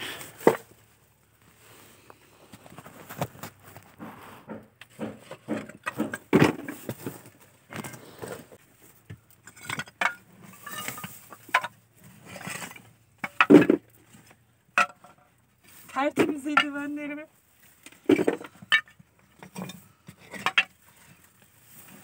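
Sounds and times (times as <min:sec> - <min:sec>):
roof tiles and rubble clinking: 0:02.5 - 0:22.0.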